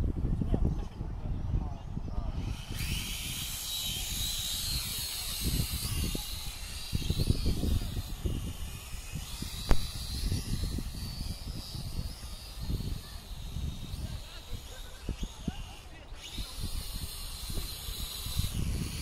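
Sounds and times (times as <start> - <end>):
wind rumble on microphone: 0.0 - 19.0
toy drone motors whining: 1.8 - 19.0.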